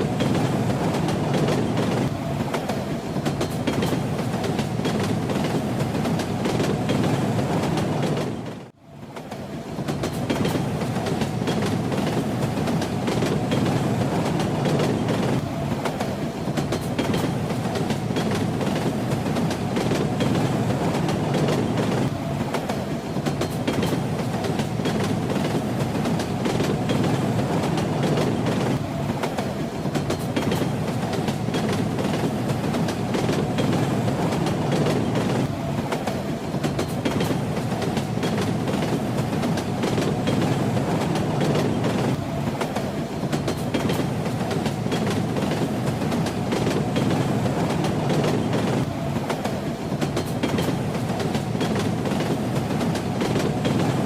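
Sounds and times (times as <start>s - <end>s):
train rumbling and clacking: 0.0s - 54.0s.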